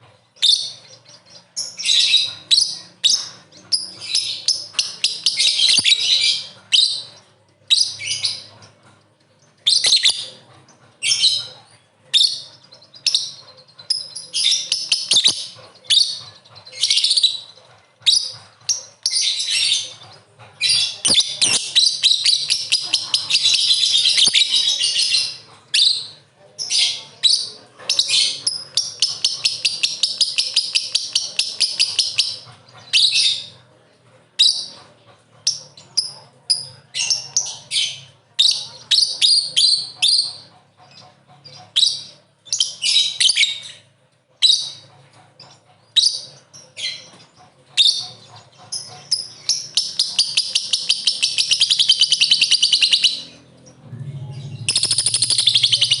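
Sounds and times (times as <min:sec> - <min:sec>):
lovebird chattering: 0:00.4 - 0:08.8, 0:09.6 - 0:33.6, 0:34.4 - 0:56.0.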